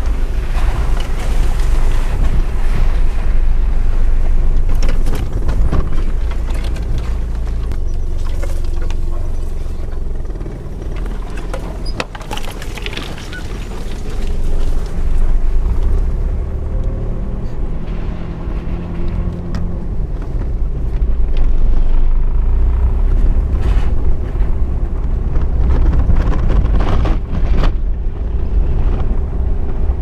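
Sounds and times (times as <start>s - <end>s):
knocks and rattles over bumps: 0.0s - 30.0s
vehicle engine rumble: 0.0s - 30.0s.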